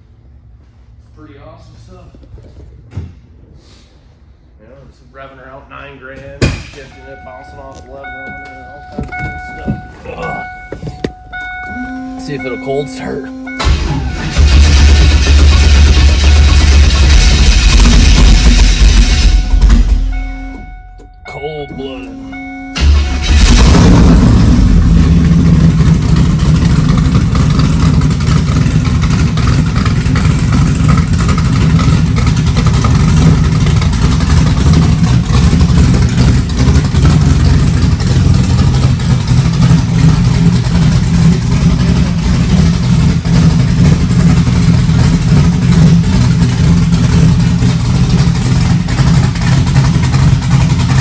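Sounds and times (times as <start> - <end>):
car engine starting and idling: 4.6 - 51.0.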